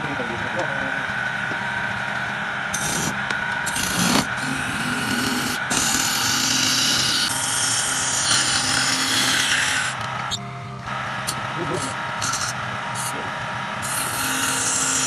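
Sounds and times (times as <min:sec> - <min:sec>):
lathe motor hum: 0:00.0 - 0:15.0
tool scraping spinning wood: 0:00.0 - 0:15.0.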